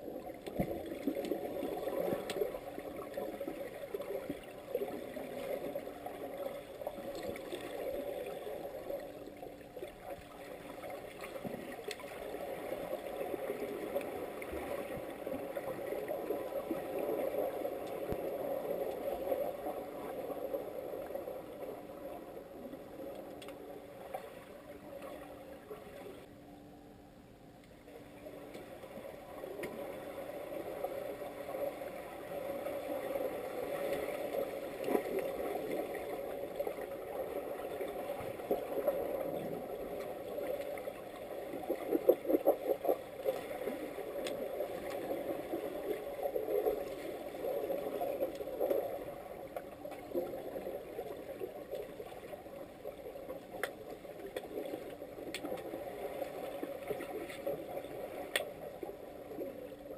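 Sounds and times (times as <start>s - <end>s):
muffled churning water underwater: 0.0s - 59.9s.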